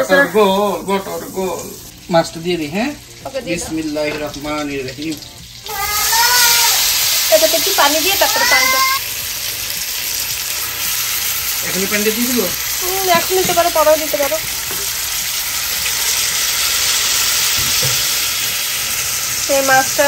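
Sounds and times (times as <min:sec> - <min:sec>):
fish sizzling in a pan: 0:00.0 - 0:20.0.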